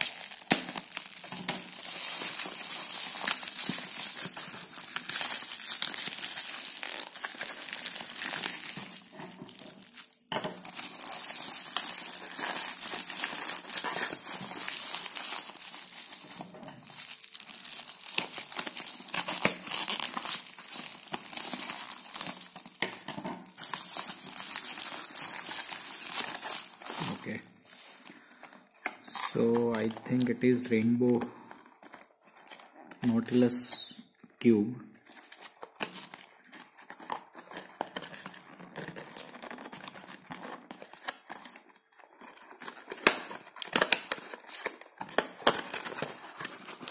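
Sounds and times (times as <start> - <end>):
bubble wrap crinkling: 0.0 - 33.6, 34.9 - 46.9.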